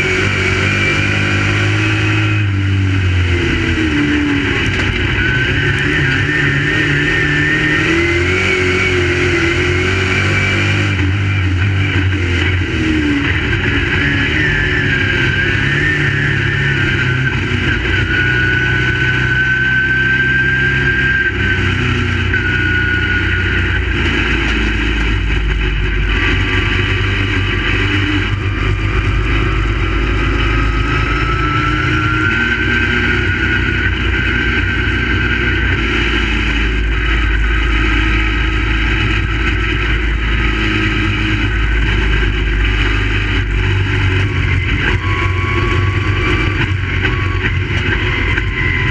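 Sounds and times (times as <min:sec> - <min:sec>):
race car engines: 0:00.0 - 0:48.9.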